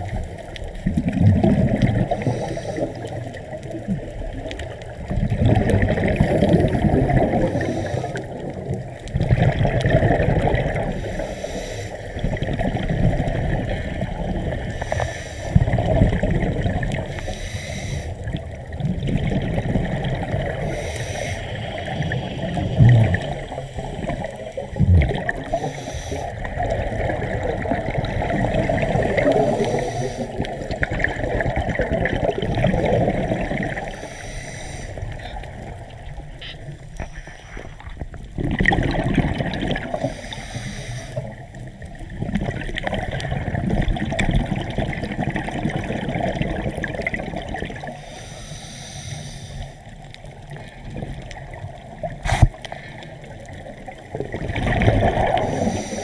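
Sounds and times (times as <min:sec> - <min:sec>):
water gurgling and sloshing: 0:00.0 - 0:56.0.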